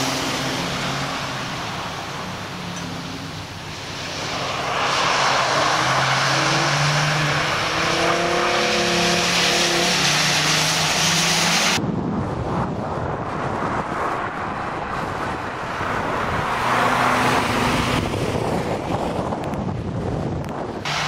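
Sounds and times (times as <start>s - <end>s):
car engines revving: 0.0s - 11.8s, 12.6s - 21.0s.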